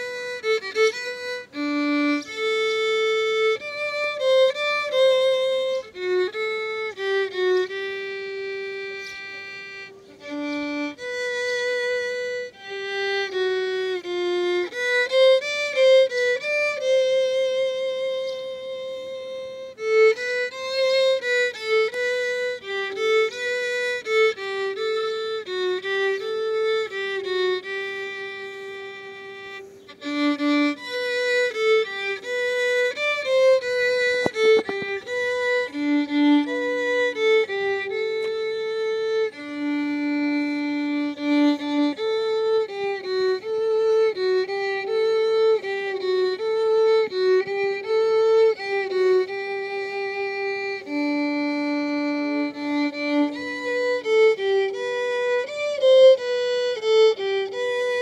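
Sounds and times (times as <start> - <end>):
solo violin melody: 0.0 - 58.0.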